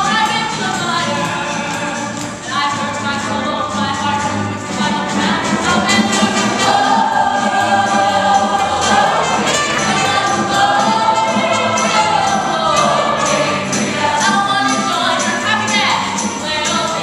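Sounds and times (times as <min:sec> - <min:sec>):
chorus singing: 0:00.0 - 0:17.0
live band playing: 0:00.1 - 0:17.0.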